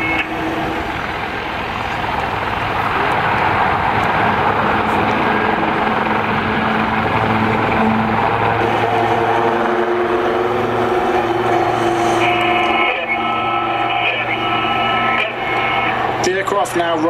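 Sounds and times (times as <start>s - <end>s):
low hum: 0.0s - 16.8s
helicopter rotor and turbine noise: 0.0s - 17.0s.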